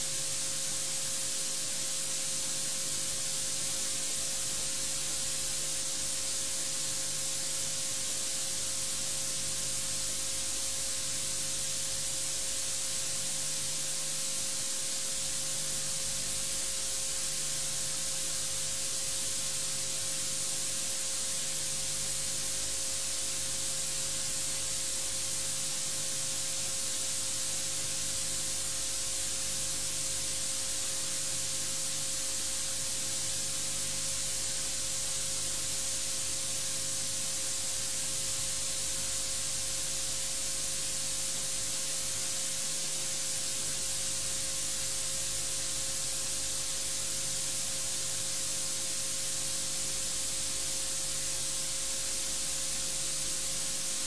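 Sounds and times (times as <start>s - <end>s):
electronic static hiss: 0.0s - 54.0s
faint hum tone: 0.0s - 54.0s.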